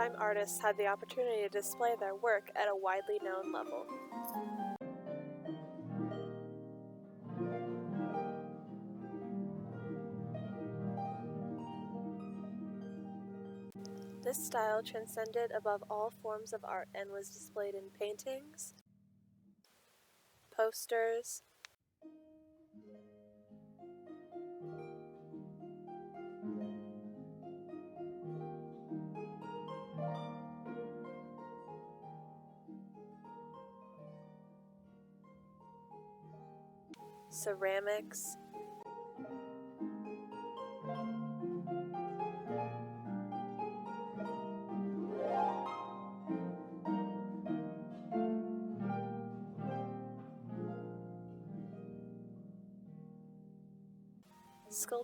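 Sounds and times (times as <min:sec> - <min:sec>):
harp-like plucked notes: 0:00.0 - 0:18.7, 0:22.7 - 0:36.3, 0:37.0 - 0:52.6.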